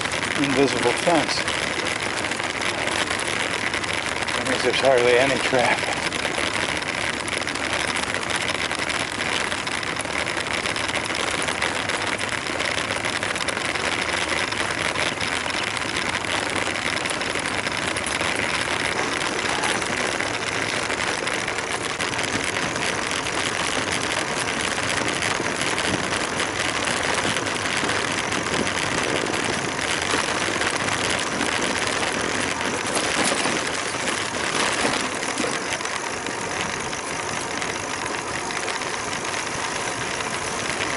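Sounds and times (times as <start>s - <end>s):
bicycle tyres on dirt road: 0.0s - 40.9s
grit ticking under wheels: 0.0s - 40.9s.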